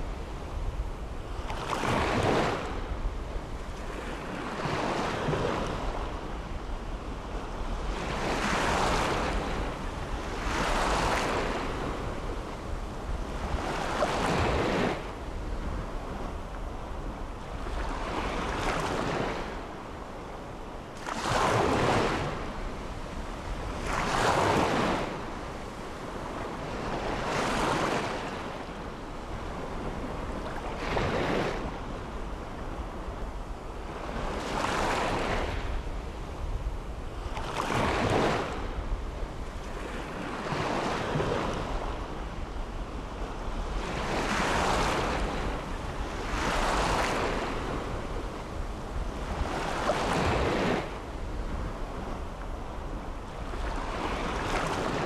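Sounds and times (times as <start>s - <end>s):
waves breaking on beach: 0.0s - 20.1s, 21.0s - 55.0s.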